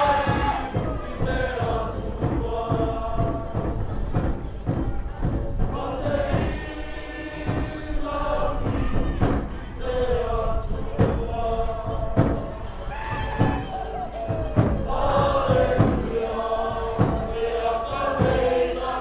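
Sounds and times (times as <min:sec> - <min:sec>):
group singing in chorus: 0:00.0 - 0:19.0
rhythmic beat: 0:00.0 - 0:19.0.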